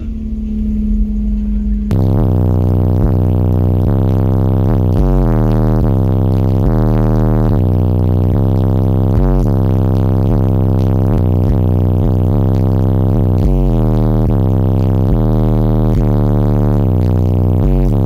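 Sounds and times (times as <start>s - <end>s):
bass-heavy electronic music: 0.0s - 18.0s.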